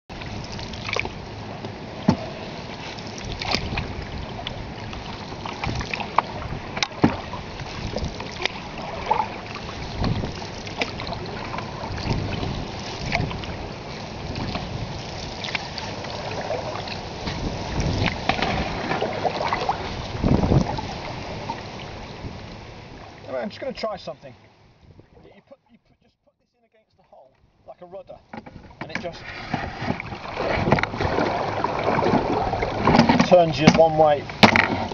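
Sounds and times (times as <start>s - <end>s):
paddle splashes: 0.1s - 25.8s, 28.2s - 34.9s
water rushing along hull: 0.1s - 26.2s, 27.0s - 34.9s.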